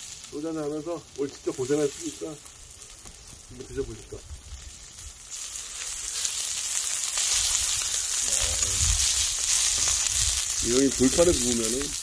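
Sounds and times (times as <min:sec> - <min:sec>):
beef slices sizzling on hot stone: 0:00.0 - 0:12.0.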